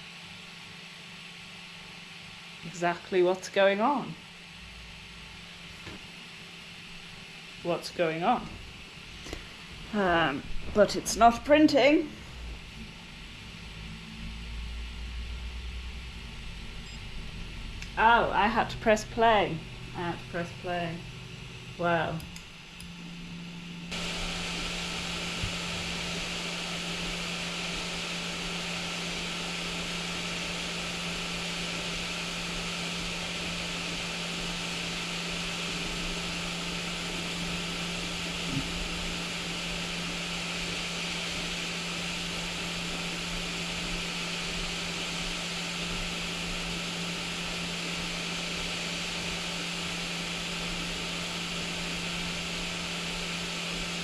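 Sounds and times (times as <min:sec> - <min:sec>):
printer whirring with low hum: 0:04.2 - 0:54.0.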